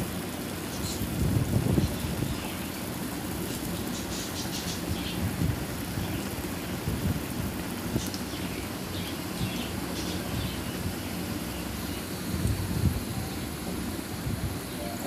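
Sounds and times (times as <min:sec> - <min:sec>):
pastries sizzling in hot oil: 0:00.0 - 0:15.0.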